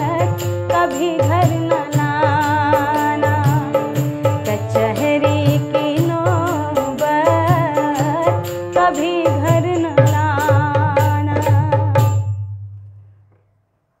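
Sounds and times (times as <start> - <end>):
person singing: 0.0 - 12.0
hand drum beaten in quick rhythm: 0.0 - 12.3.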